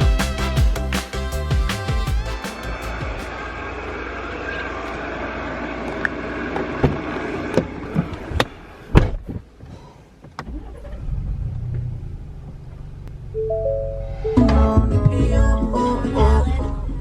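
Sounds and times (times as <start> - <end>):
car engine rumbling: 2.6 - 17.0.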